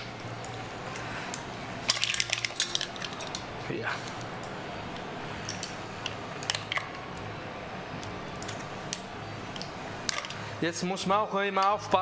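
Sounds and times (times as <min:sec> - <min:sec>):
kitchen background hum and hiss: 0:00.0 - 0:12.0.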